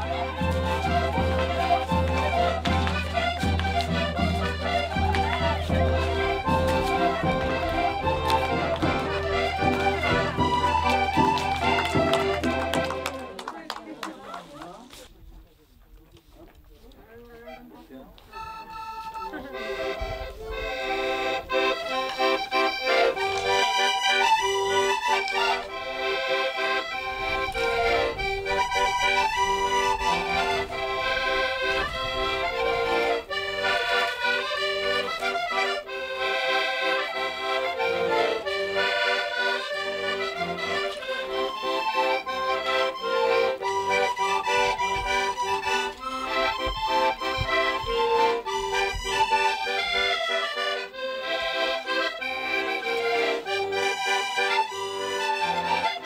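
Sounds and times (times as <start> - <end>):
button accordions playing folk tune: 0.0 - 15.0, 17.2 - 56.0.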